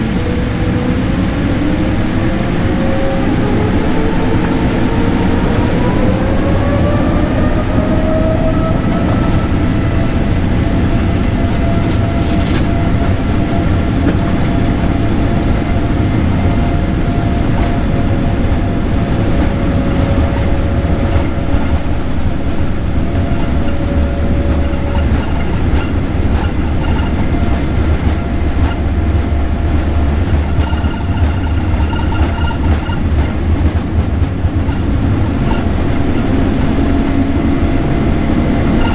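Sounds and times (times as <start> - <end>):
jet engine whine: 0.0 - 38.9
low rumble of takeoff roll: 0.0 - 38.9.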